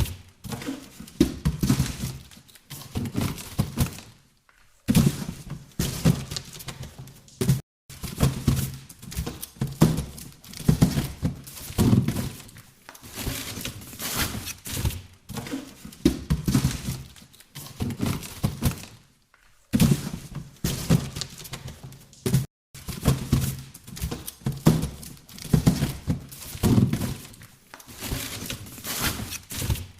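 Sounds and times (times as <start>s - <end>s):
boxes scraping and sliding: 0.0s - 4.1s, 4.9s - 18.9s, 19.8s - 29.9s
boxes thudding and knocking: 0.0s - 4.2s, 4.9s - 19.1s, 19.7s - 29.9s.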